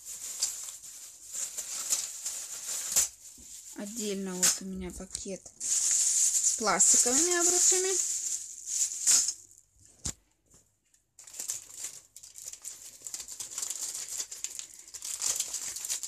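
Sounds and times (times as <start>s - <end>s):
plastic bag crinkling: 0.0s - 10.1s, 11.2s - 16.0s.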